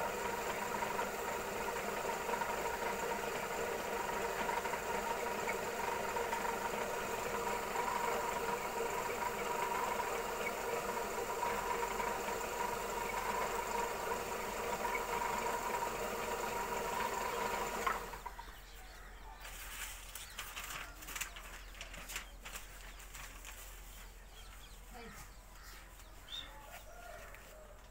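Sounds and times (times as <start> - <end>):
winding machine hum and whine: 0.0 - 23.5.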